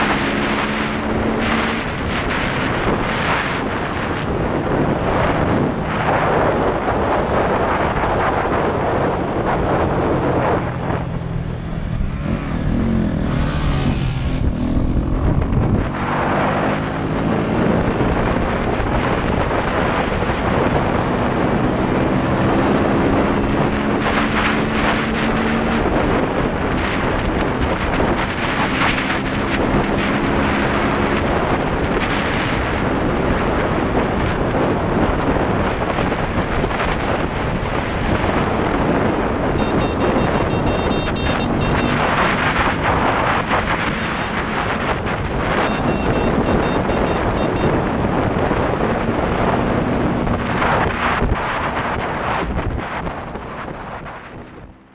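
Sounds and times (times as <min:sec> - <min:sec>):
motorcycle engine hum: 0:00.0 - 0:54.9
wind rushing over microphone: 0:00.0 - 0:54.9.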